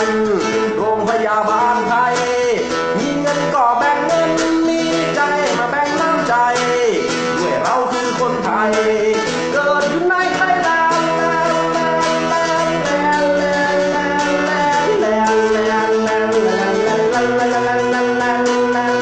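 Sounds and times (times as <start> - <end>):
guitar accompaniment: 0.0 - 19.0
man singing: 0.0 - 19.0.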